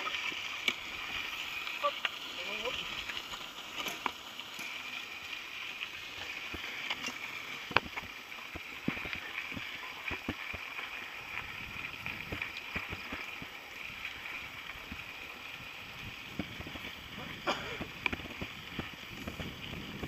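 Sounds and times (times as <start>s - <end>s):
bike tyres rolling on gravel: 0.0s - 20.0s
steady high hiss: 0.0s - 20.0s.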